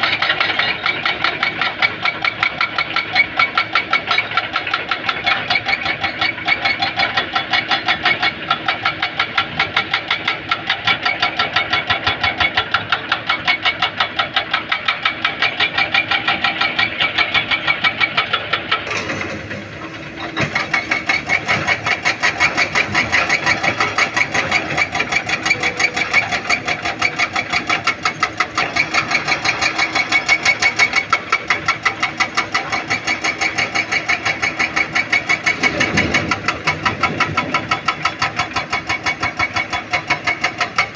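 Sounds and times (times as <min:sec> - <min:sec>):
heavy diesel engine pulsing: 0:00.0 - 0:40.9.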